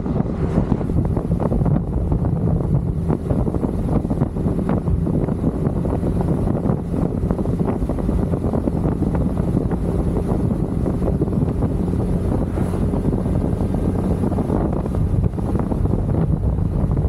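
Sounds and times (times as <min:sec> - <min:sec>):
motorcycle engine hum: 0:00.0 - 0:17.0
road noise: 0:00.0 - 0:17.0
wind rushing over microphone: 0:00.0 - 0:17.0.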